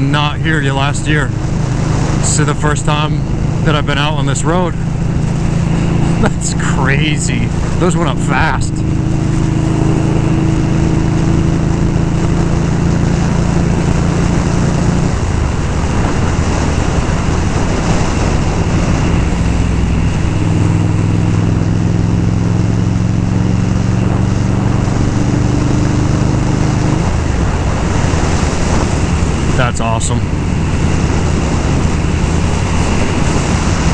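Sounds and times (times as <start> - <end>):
motorcycle engine cruising: 0.0 - 33.9
wind rush on microphone: 0.0 - 33.9.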